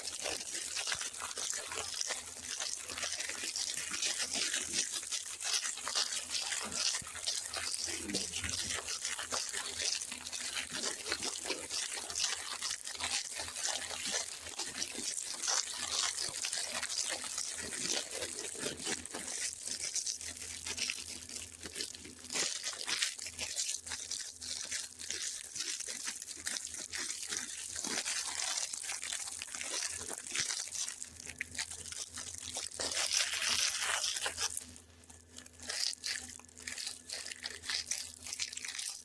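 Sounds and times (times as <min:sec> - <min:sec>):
packaging rustling and crackling: 0:00.0 - 0:39.0.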